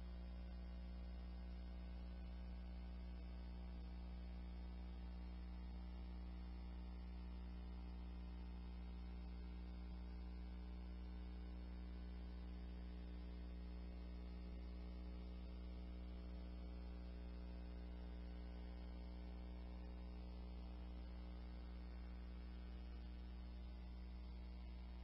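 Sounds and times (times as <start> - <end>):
faint mains hum: 0.0 - 25.0.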